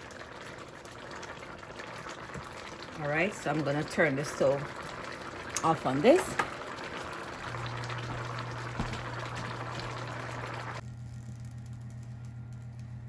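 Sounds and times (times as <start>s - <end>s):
pot bubbling and simmering: 0.0s - 13.0s.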